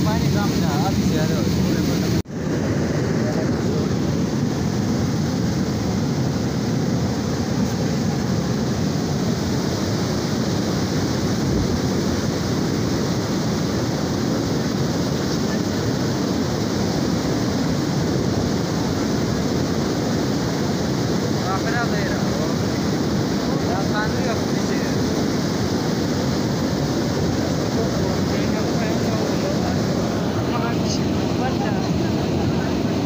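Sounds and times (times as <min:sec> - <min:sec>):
flood torrent rushing: 0:00.0 - 0:33.0.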